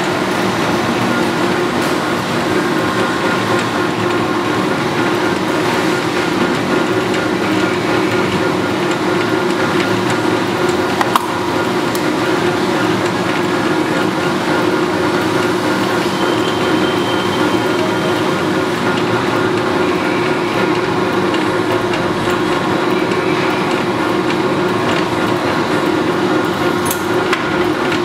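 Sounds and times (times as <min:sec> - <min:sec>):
lathe humming: 0:00.0 - 0:28.0.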